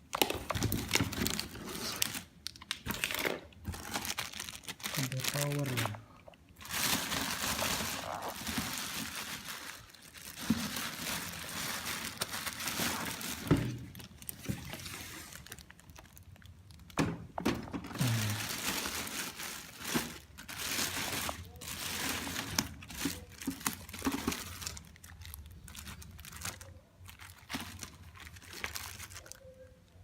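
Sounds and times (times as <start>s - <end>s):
plastic packaging crinkling: 0.0s - 17.0s, 17.9s - 30.0s.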